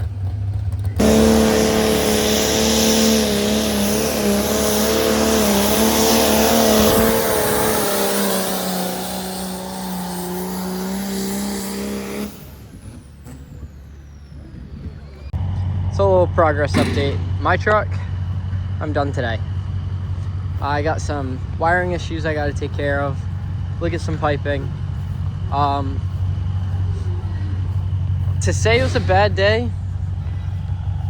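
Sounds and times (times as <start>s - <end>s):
diesel truck engine at full throttle: 0.0s - 31.0s.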